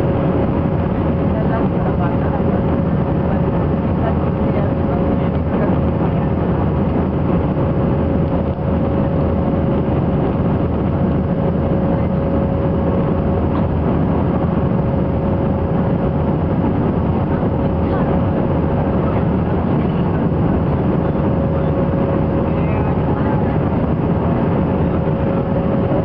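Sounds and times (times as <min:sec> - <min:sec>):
jet engines running: 0:00.0 - 0:26.0
steady humming tone: 0:00.0 - 0:26.0.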